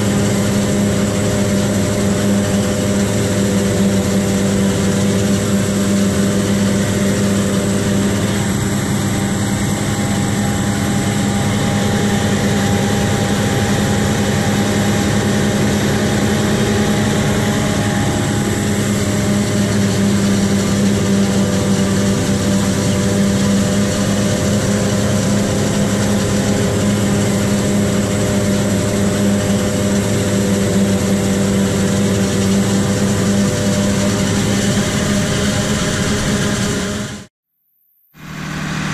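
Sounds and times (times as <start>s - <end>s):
farm machinery engine hum: 0.0s - 37.3s, 38.2s - 38.9s.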